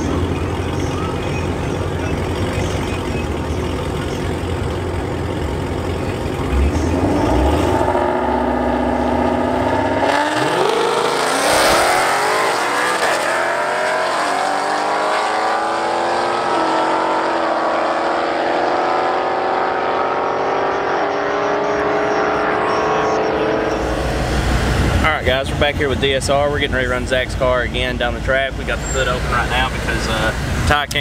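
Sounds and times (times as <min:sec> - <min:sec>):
drag car engines revving: 0:00.0 - 0:31.0.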